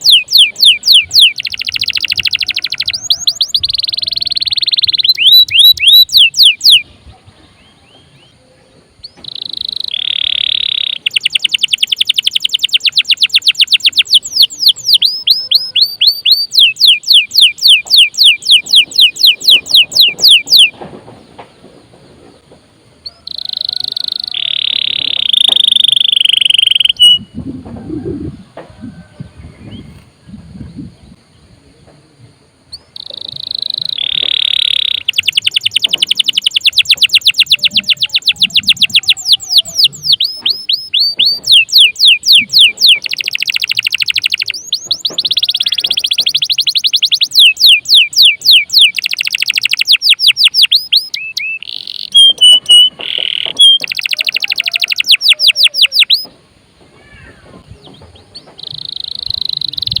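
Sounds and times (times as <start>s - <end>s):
canary singing trills: 0.0s - 20.8s, 23.0s - 31.4s, 32.7s - 56.4s, 57.0s - 60.0s.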